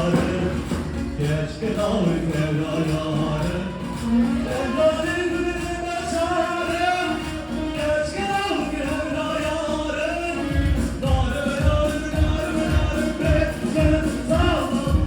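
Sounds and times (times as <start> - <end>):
band playing: 0.0 - 15.0
man singing: 0.0 - 15.0.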